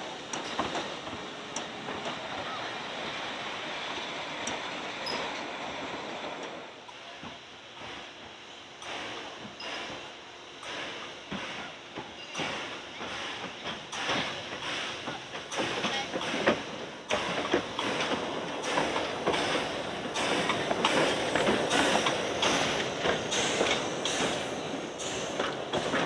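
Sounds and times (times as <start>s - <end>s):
steam train clicks and knocks: 0.0s - 26.0s.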